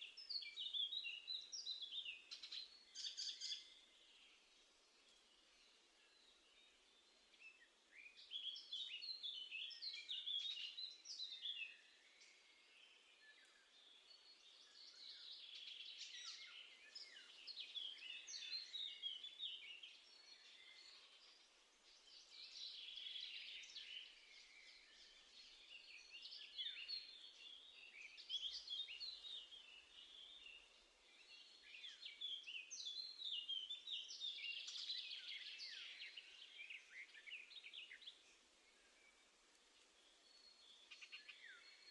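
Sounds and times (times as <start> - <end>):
songbirds twittering: 0.0 - 41.9.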